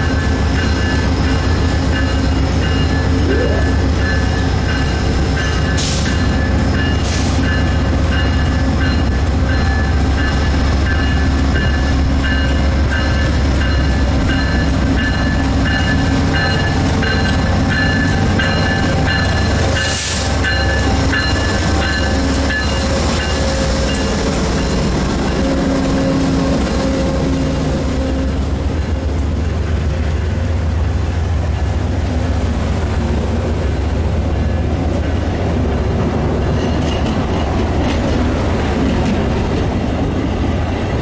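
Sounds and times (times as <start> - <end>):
diesel locomotive engine drone: 0.0 - 41.0.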